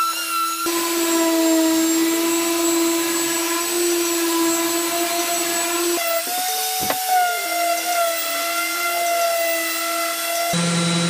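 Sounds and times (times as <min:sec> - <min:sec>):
orbital sander on wood: 0:00.0 - 0:11.0.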